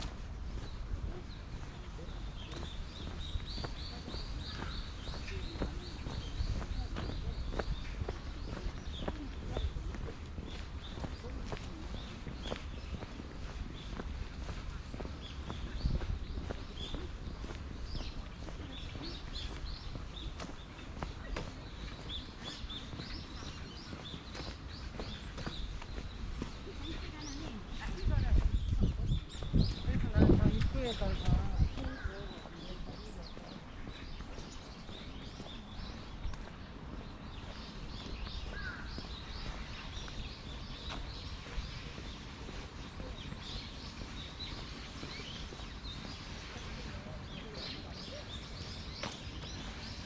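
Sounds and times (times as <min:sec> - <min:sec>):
footsteps on a path: 0:00.0 - 0:50.0
small birds chirping: 0:00.0 - 0:50.0.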